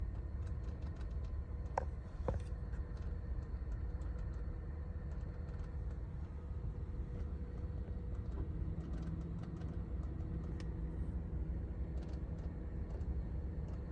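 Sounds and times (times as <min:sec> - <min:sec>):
van cabin low rumble: 0:00.0 - 0:13.9.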